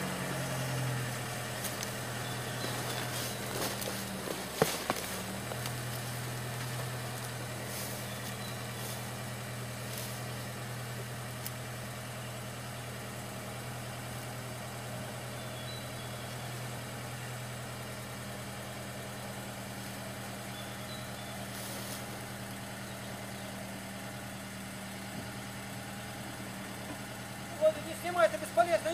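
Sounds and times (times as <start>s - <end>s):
vehicle engine idling: 0.0s - 28.9s.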